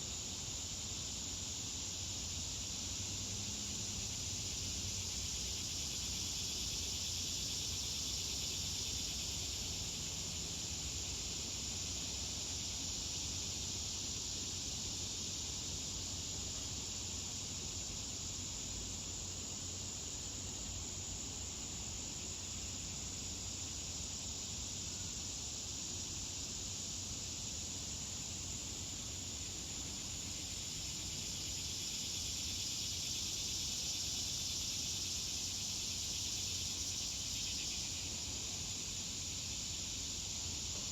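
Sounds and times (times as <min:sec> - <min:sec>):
night insect chorus: 0:00.0 - 0:40.9.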